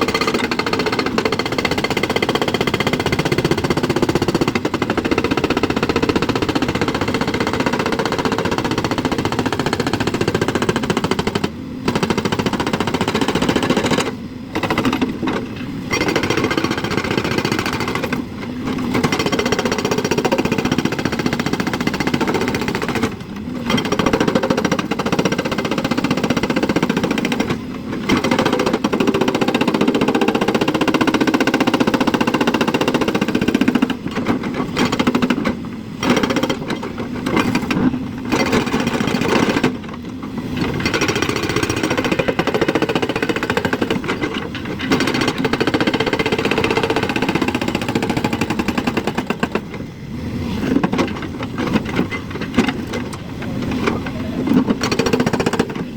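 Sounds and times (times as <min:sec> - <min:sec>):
excavator diesel engine rattling: 0:00.0 - 0:55.9.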